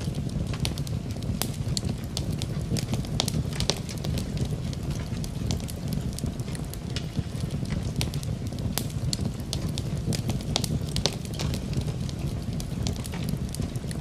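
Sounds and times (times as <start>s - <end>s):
rain falling: 0.0s - 14.0s
wood fire crackling: 0.0s - 14.0s.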